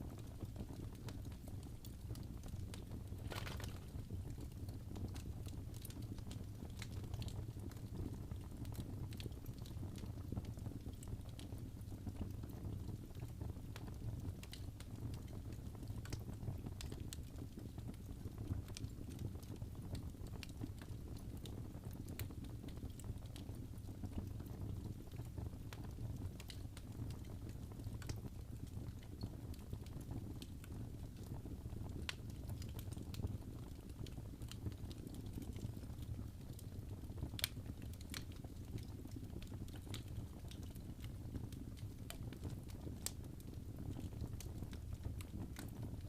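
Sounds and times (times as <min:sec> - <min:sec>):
low rumble of flames: 0:00.0 - 0:46.0
wood fire crackling and popping: 0:00.0 - 0:46.0.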